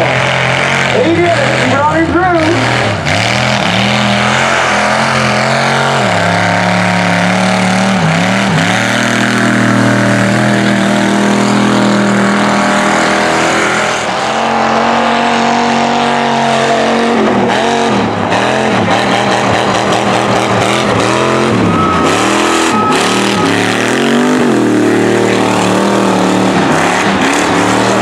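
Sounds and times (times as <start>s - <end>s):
truck engine revving high: 0.0s - 28.0s.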